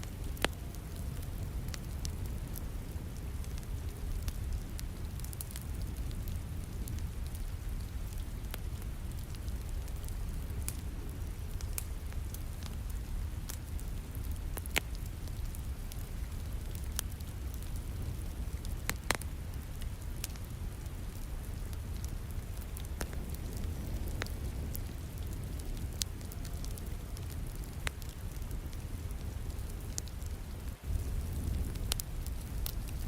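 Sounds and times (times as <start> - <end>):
rain falling: 0.0 - 33.0
wood fire crackling and popping: 0.0 - 33.0.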